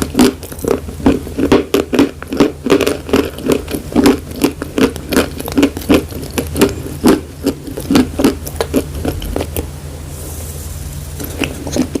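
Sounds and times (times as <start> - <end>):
chalk being chewed: 0.0 - 9.7.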